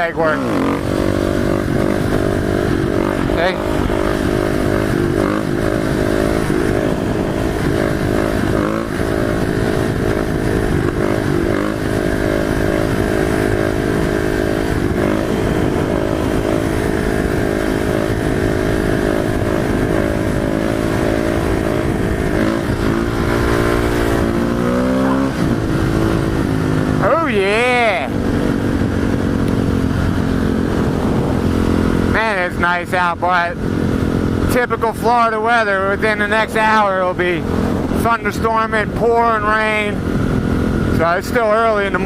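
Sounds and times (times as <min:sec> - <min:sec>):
motorcycle engine revving: 0:00.0 - 0:42.0
wind rumbling on microphone: 0:00.0 - 0:42.0.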